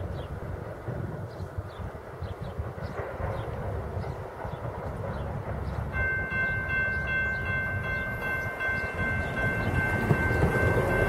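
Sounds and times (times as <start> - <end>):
low rumble of train: 0.0 - 11.0.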